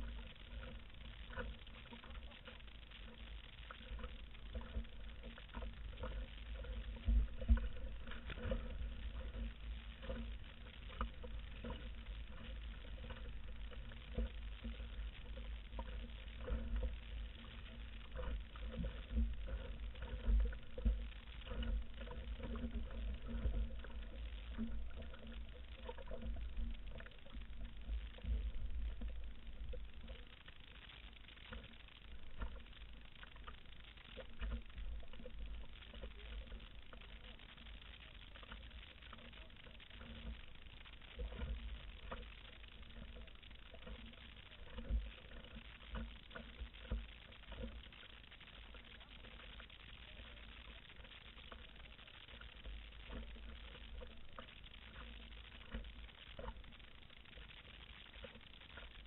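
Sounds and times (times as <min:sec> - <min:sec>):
water lapping against hull: 0:00.0 - 0:59.0.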